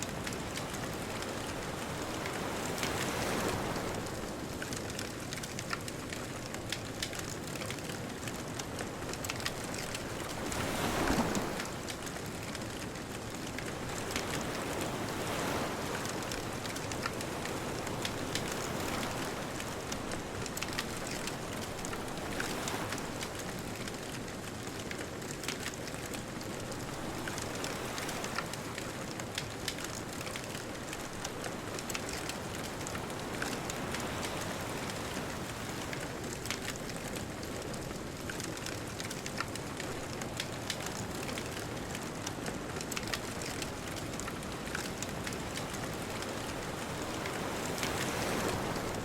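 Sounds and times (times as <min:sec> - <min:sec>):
bonfire crackling and popping: 0:00.0 - 0:49.0
distant ocean waves: 0:00.0 - 0:49.0.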